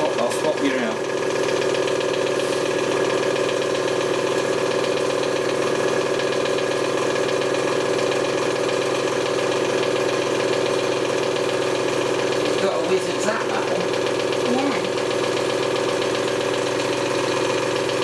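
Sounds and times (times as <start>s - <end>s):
candyfloss machine motor humming: 0.0s - 18.0s.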